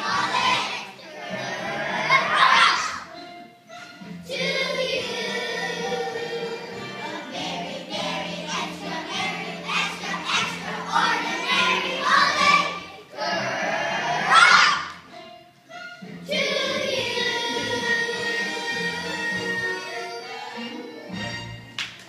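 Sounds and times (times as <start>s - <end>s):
children's choir singing: 0.0s - 21.4s
low musical accompaniment: 0.0s - 22.0s.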